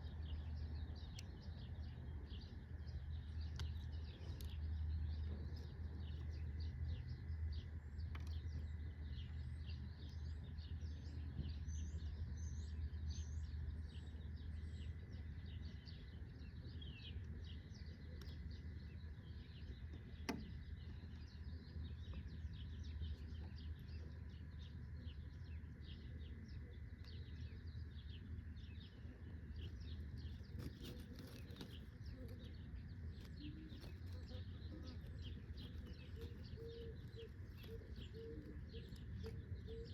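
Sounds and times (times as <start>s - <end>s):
low steady rumble: 0.0s - 39.9s
small birds chirping: 0.0s - 39.9s.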